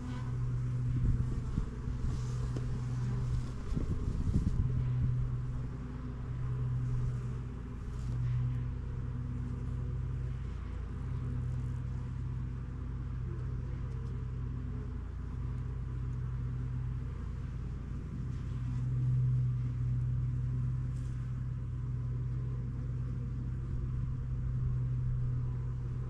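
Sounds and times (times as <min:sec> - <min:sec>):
honeybees humming: 0:00.0 - 0:26.0.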